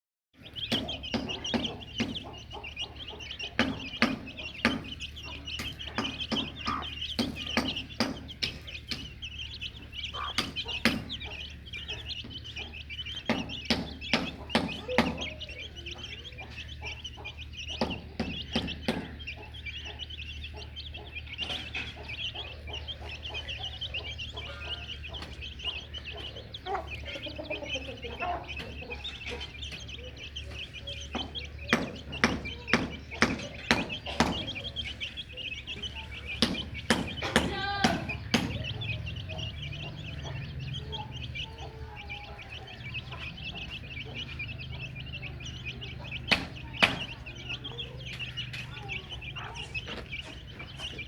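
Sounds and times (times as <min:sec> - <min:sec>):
chicks peeping: 0:00.4 - 0:51.0
hen clucking: 0:00.4 - 0:51.0
sharp taps: 0:00.4 - 0:51.0.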